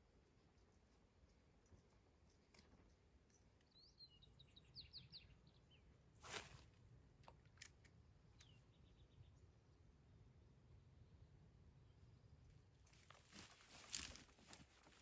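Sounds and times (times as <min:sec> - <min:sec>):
songbird chirping: 0:00.0 - 0:06.6, 0:07.5 - 0:15.0.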